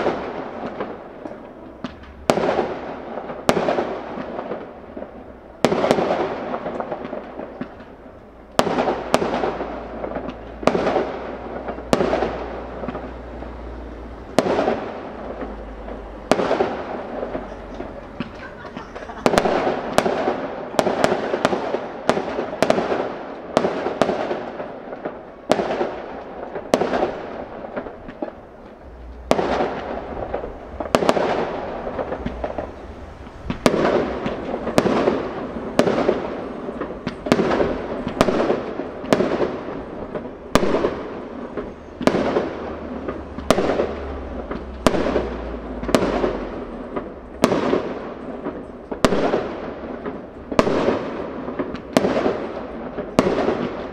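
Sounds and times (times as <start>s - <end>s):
firework shells bursting: 0.0s - 53.9s.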